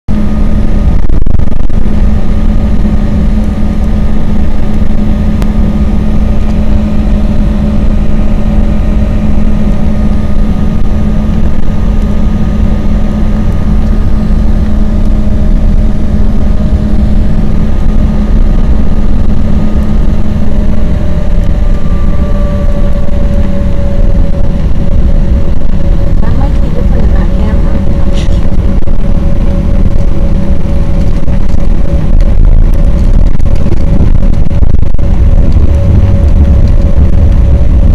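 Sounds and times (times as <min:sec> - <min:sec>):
jet engines rumbling and whining: 0:00.0 - 0:37.9.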